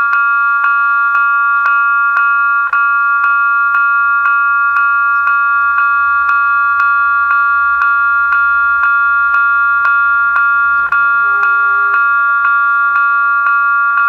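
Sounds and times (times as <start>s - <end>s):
level crossing bells ringing: 0.0s - 14.0s.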